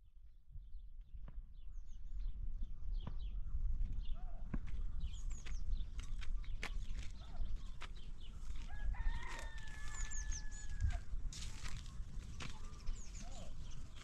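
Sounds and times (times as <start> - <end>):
small birds chirping: 0.6 - 14.0.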